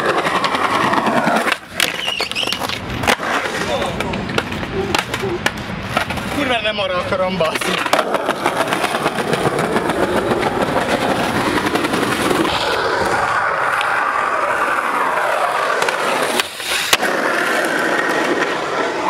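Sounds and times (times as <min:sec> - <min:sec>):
skateboard wheels rolling on pavement: 0:00.0 - 0:19.0.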